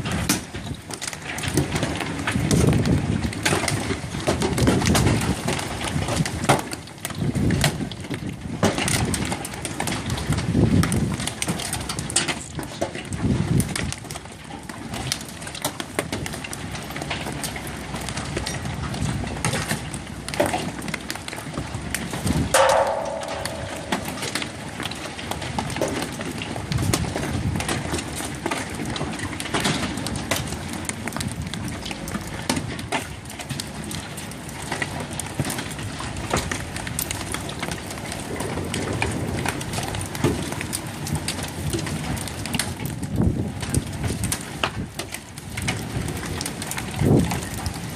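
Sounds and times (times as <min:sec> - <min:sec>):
wind buffeting microphone: 0:00.0 - 0:12.3, 0:13.0 - 0:14.2, 0:17.7 - 0:47.9.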